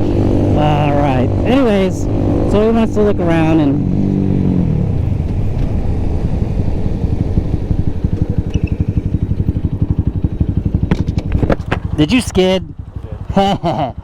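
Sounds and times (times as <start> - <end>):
motorcycle engine chugging: 0.0 - 14.0.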